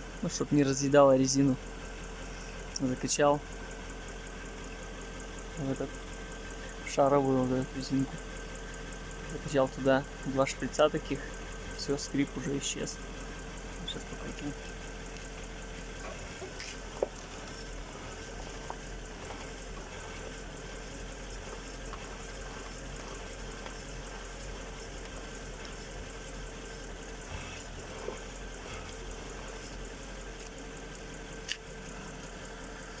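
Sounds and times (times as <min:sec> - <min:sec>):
steady hum and hiss: 0:00.0 - 0:33.0.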